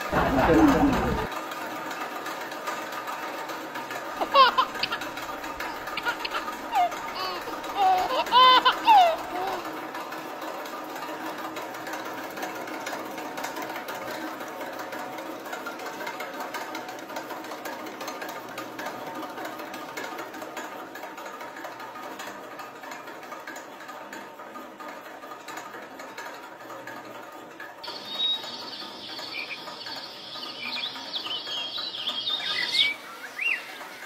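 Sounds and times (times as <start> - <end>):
flywheel machine clattering: 0.0 - 34.0.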